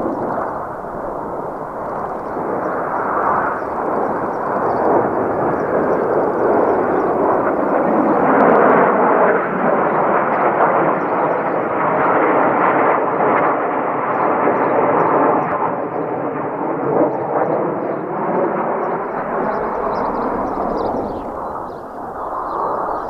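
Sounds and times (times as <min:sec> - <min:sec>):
jets flying past roaring: 0:00.0 - 0:14.7, 0:17.9 - 0:23.0.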